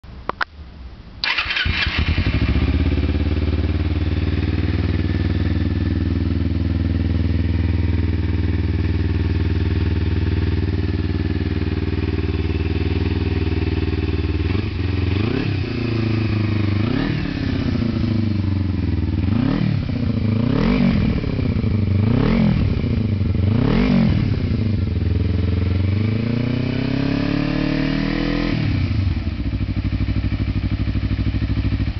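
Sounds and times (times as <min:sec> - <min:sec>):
motorcycle engine idling and revving: 0:01.2 - 0:31.9.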